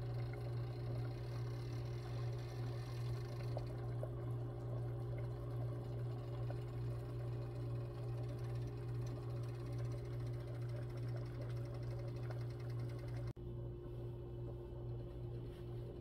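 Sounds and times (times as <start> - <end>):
small motor humming: 0.0 - 13.4.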